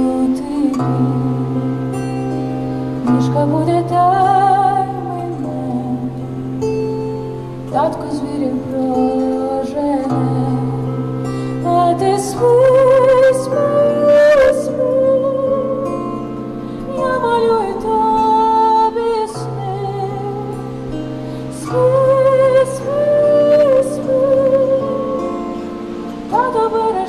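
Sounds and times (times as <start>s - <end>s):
woman singing a lullaby: 0.0s - 2.1s, 3.0s - 6.7s, 7.6s - 27.0s
plucked bandura: 0.0s - 27.0s.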